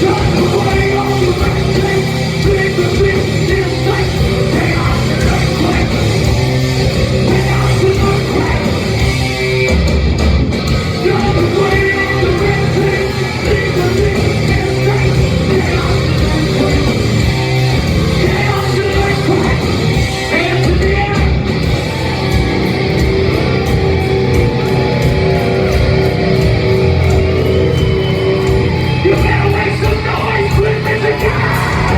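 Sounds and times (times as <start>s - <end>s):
singer yelling: 0.0s - 9.3s, 10.8s - 31.9s
live heavy metal band: 0.0s - 31.9s.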